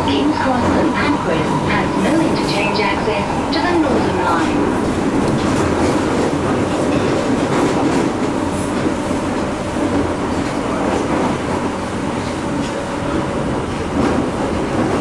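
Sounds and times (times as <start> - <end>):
underground train rumbling: 0.0 - 15.0
wheels clattering on rails: 2.0 - 15.0.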